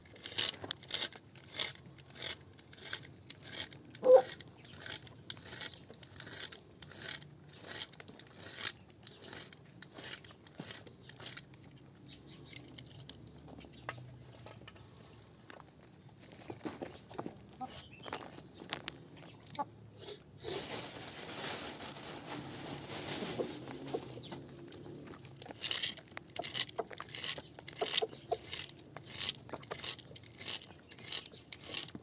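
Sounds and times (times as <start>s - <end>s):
animal eating with crisp crunches: 0.0s - 32.0s.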